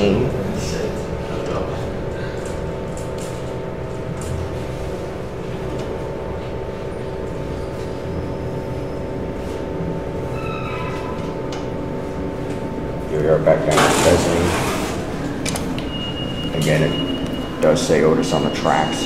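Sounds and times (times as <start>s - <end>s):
elevator hum of steady tones: 0.0s - 19.0s
elevator running rumble: 0.0s - 19.0s.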